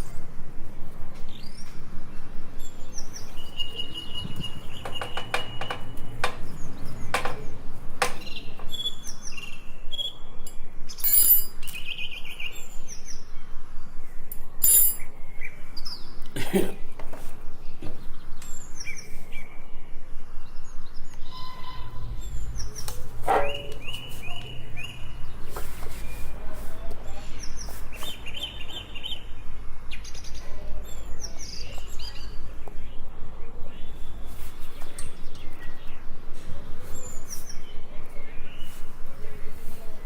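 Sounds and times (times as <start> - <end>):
small birds chirping: 1.2 - 14.4, 17.4 - 40.0.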